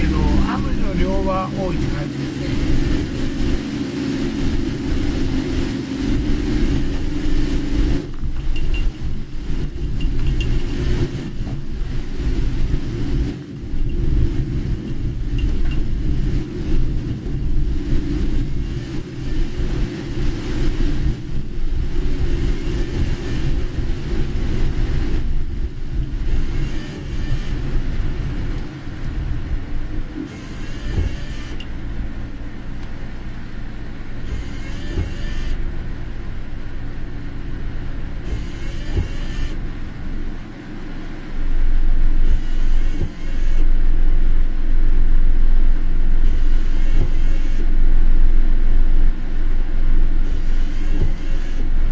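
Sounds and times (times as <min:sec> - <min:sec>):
car engine and tyres rumbling: 0:00.0 - 0:51.9
wet road hiss: 0:00.0 - 0:51.9.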